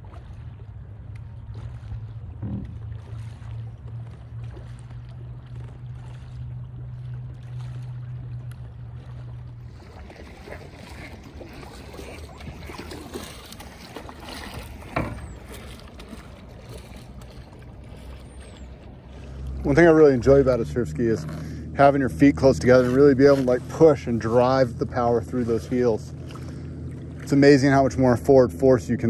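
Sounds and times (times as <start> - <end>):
paddle splashing water: 0.0 - 29.0
steady low hum: 0.0 - 29.0.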